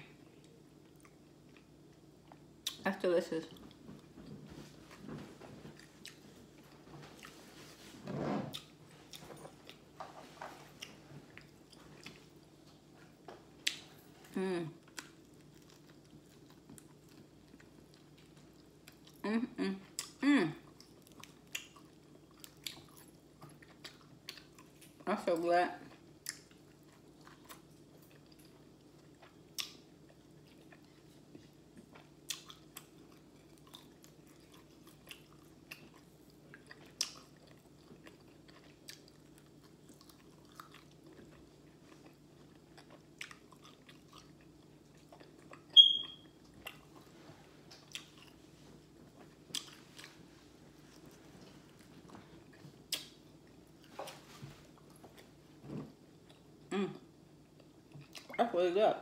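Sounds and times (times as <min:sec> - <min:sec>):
faint hum: 0:00.0 - 0:59.0
chewing and biting food: 0:03.5 - 0:07.4, 0:08.5 - 0:14.0, 0:14.8 - 0:19.2, 0:19.9 - 0:25.0, 0:25.9 - 0:55.4.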